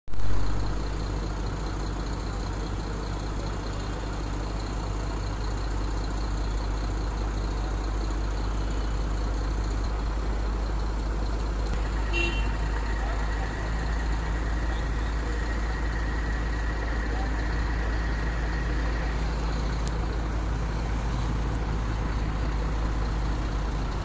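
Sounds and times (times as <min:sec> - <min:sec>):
heavy diesel engine droning: 0:00.1 - 0:24.0.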